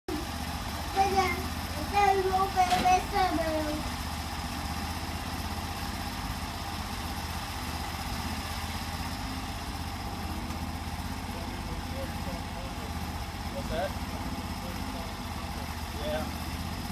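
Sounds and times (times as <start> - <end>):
sawmill engine running: 0.1 - 16.9.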